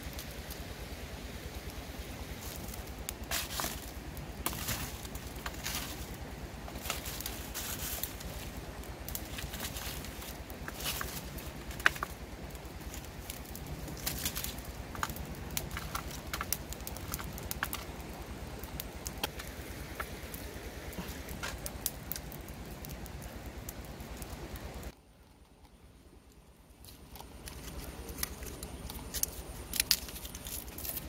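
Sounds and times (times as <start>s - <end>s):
fire pops and snaps: 0.0s - 31.0s
wood fire crackling: 0.0s - 31.0s.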